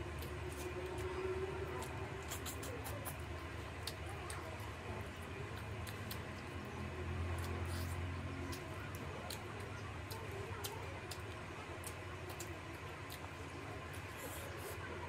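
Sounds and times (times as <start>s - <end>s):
low steady hum: 0.0s - 15.0s
wet chewing and lip smacks: 0.1s - 15.0s.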